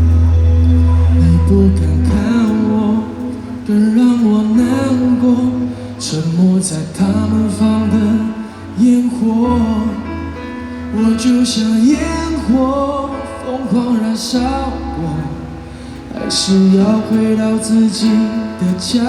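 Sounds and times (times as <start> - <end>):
guitar: 0.0 - 19.0
live pop ballad with band: 0.0 - 19.0
person singing: 0.0 - 19.0.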